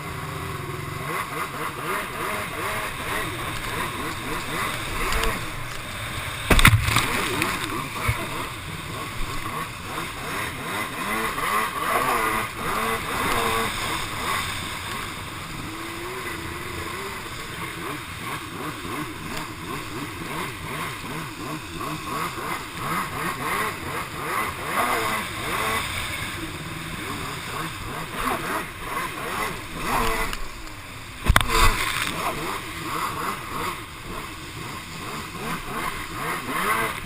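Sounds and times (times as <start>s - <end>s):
jet ski engine revving: 0.0s - 37.0s.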